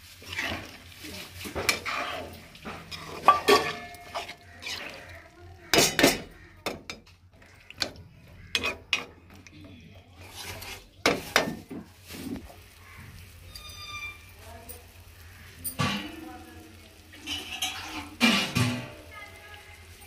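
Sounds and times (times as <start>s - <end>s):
metal spoon scraping a pan: 0.0s - 19.2s.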